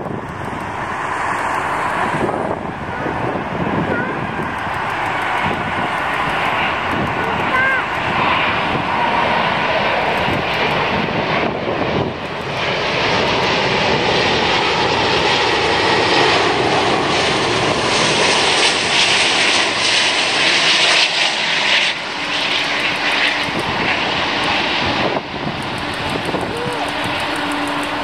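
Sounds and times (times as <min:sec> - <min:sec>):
jet airliner passing low: 0:00.0 - 0:28.0.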